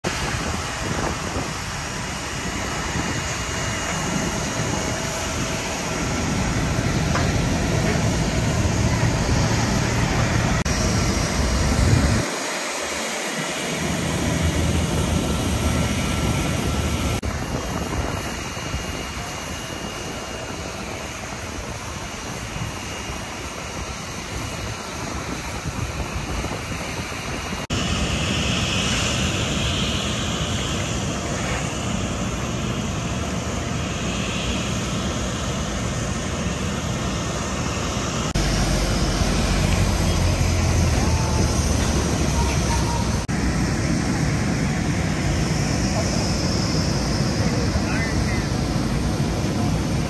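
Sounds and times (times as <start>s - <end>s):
jet airliner humming: 0.0s - 50.0s
wind rumbling on microphone: 0.0s - 50.0s.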